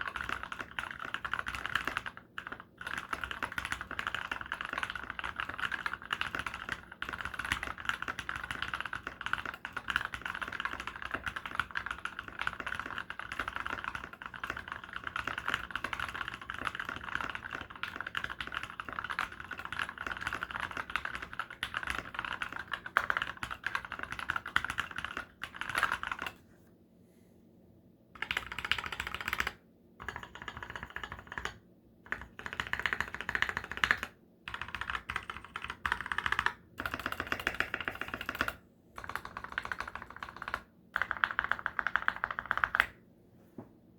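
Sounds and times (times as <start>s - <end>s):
mechanical keyboard typing: 0.0s - 26.4s, 28.2s - 43.0s.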